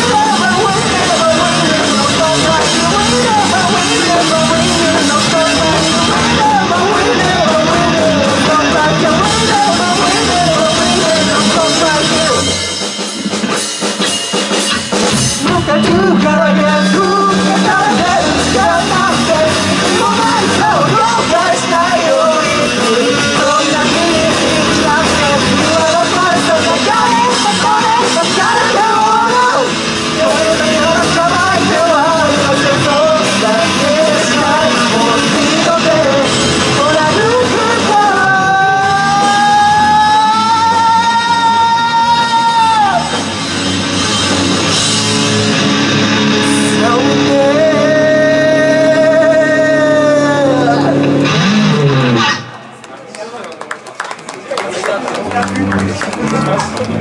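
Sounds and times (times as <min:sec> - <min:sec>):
drums: 0:00.0 - 0:52.8, 0:55.1 - 0:57.0
loud lead vocals: 0:00.0 - 0:52.8
bass guitar: 0:00.0 - 0:52.9, 0:55.1 - 0:57.0
electric guitars: 0:00.0 - 0:53.1, 0:53.8 - 0:57.0.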